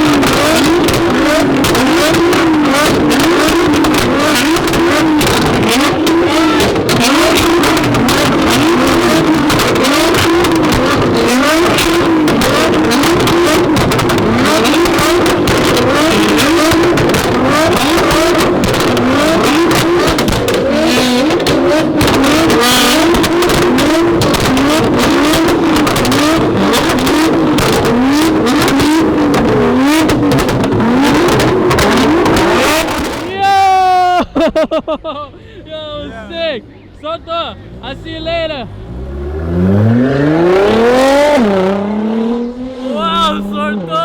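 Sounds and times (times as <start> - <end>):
car engine revving: 0.0 - 33.3, 36.0 - 44.0
exhaust crackles: 0.0 - 33.4, 35.6 - 44.0.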